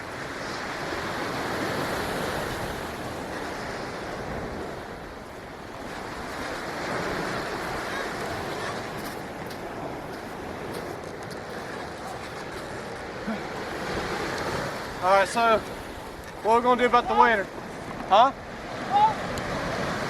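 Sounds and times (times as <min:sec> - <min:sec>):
ocean surf washing onto beach: 0:00.0 - 0:20.0.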